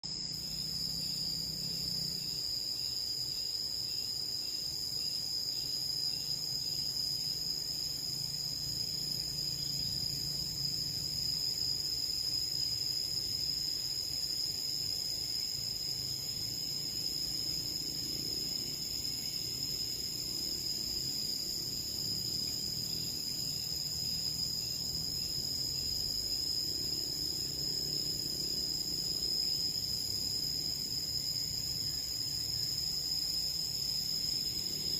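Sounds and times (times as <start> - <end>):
insect chorus drone: 0.0 - 34.9.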